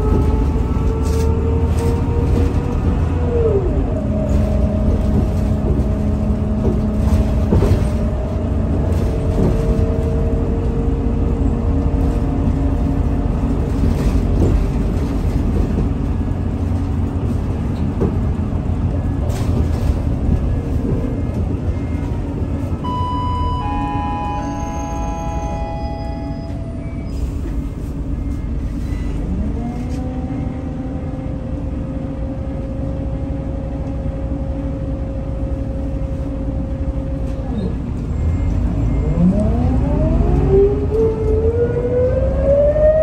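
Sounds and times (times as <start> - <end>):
bus diesel engine drone: 0.0 - 43.0
road rumble: 0.0 - 43.0.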